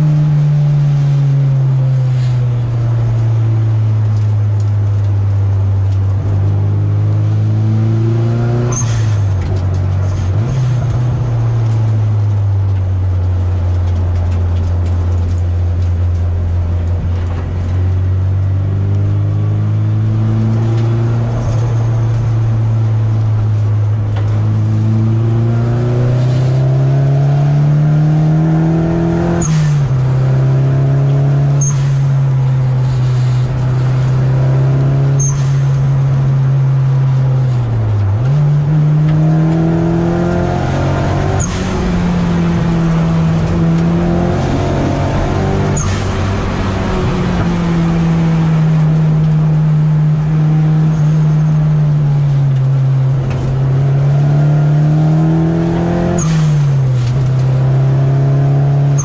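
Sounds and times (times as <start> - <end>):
car engine revving under throttle: 5.3 - 59.0.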